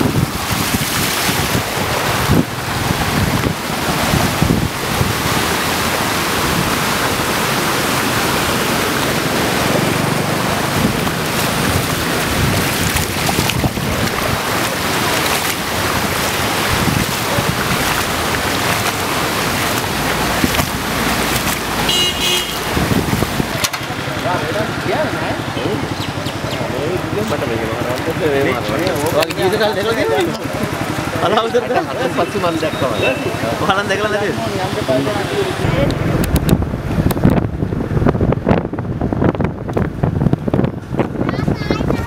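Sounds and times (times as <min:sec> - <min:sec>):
wind buffeting microphone: 0:00.0 - 0:31.2, 0:35.4 - 0:42.0
floodwater rushing and splashing: 0:00.0 - 0:42.0.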